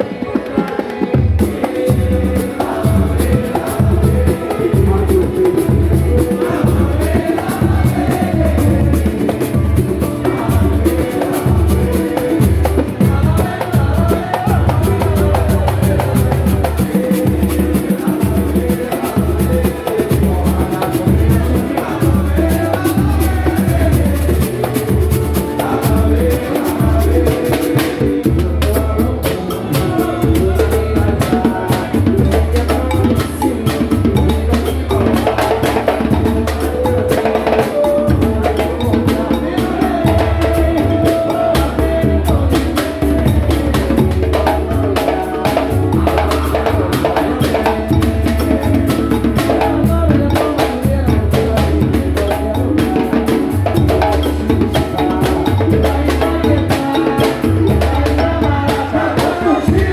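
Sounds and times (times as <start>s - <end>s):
people singing: 0.0s - 59.9s
samba percussion: 0.0s - 59.9s.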